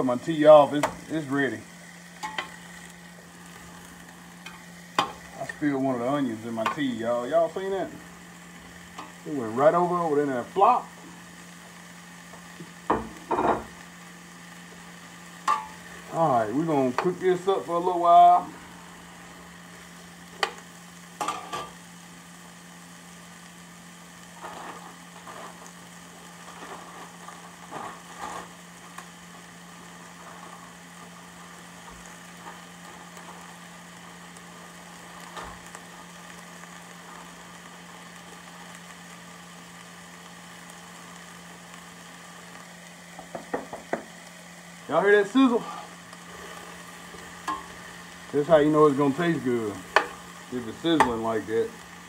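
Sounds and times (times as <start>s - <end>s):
vegetables sizzling in butter: 0.0s - 52.0s.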